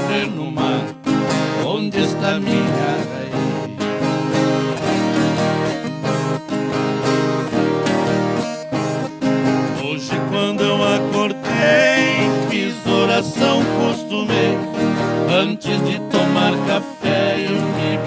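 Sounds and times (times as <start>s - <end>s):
strummed acoustic guitars: 0.0s - 18.0s.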